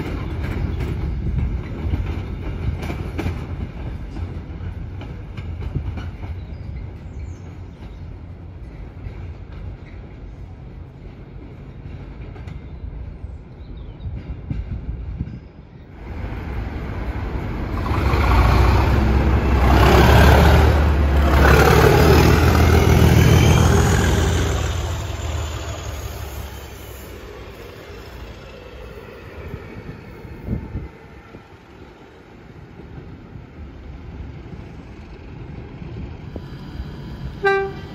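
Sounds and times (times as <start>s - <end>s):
train wagons rolling: 0.0s - 30.5s
diesel locomotive passing: 0.0s - 37.9s.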